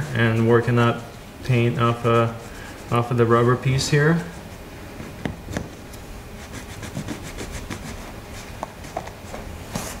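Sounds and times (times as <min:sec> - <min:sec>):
rag scrubbing rubber: 0:00.0 - 0:04.7, 0:05.4 - 0:09.0.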